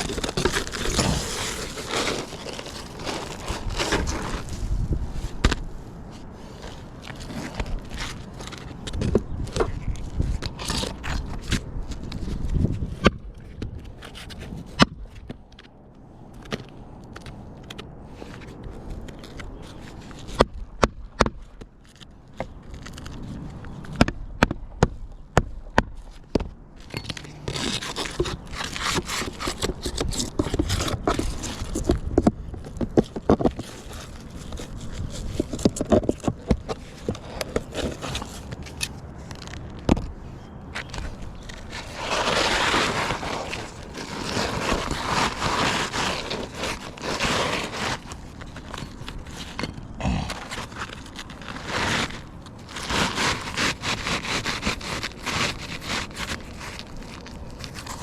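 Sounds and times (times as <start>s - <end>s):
scraping and crackling: 0.0s - 58.0s.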